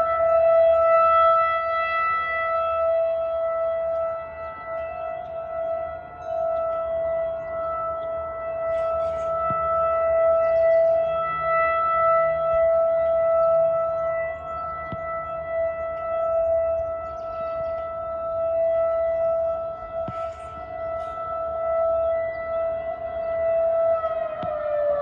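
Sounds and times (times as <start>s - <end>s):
outdoor warning siren: 0.0s - 25.0s.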